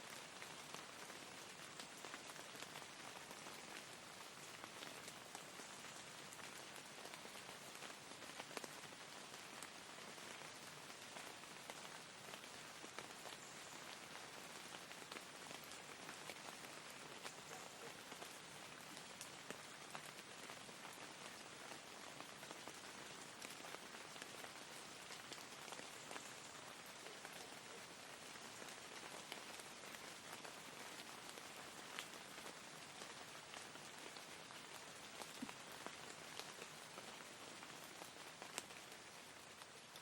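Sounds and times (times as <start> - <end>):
faint raindrop ticks: 0.0 - 40.0
soft steady rain: 0.0 - 40.0.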